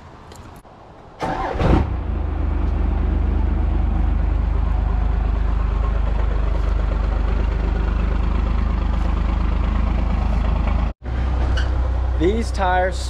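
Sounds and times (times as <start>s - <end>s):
diesel engine idling: 1.3s - 13.0s.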